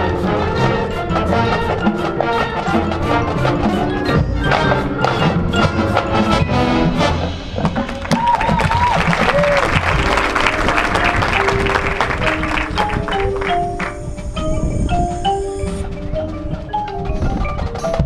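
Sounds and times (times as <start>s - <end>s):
steady drum beat: 0.0s - 17.8s
marching band playing: 0.0s - 18.0s.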